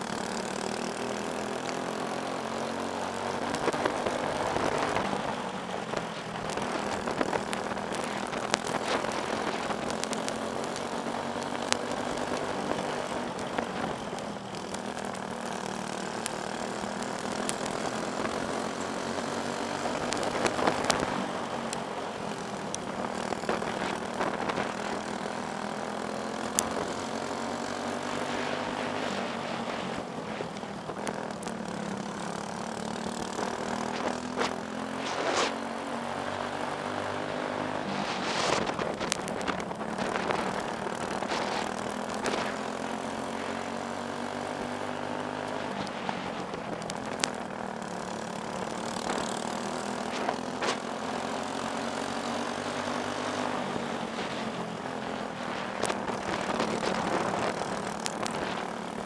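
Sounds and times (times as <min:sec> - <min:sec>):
kart engine running hard: 0:00.0 - 0:59.0
other kart engines: 0:00.0 - 0:59.0.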